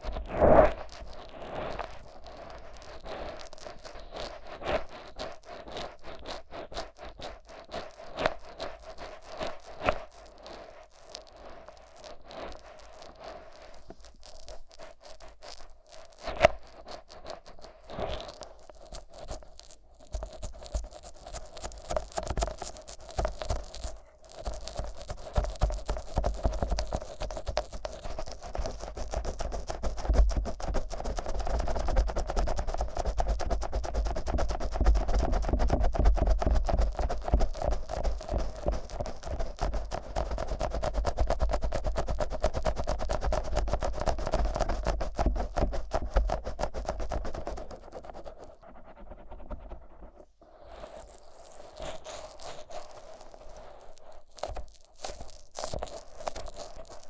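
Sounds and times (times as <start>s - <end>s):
fingers rubbing on microphone: 0.0s - 57.0s.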